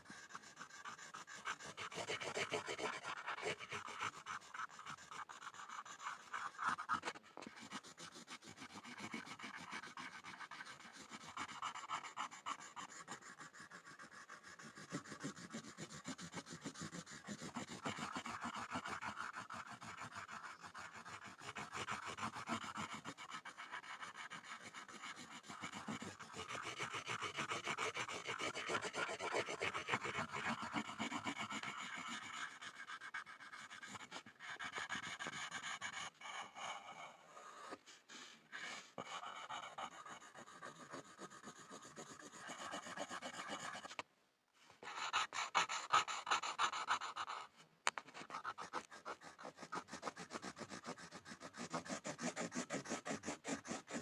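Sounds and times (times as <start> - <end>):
pencil scribbling on a board: 0.0 - 36.0, 39.0 - 44.0, 44.9 - 54.0.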